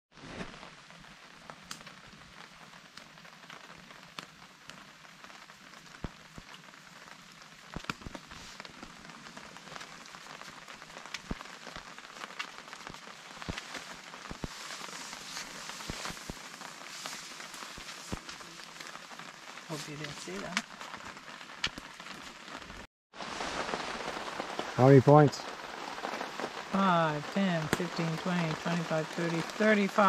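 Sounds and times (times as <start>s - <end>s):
steady rain falling: 0.1s - 30.0s
raindrop ticks: 0.8s - 30.0s.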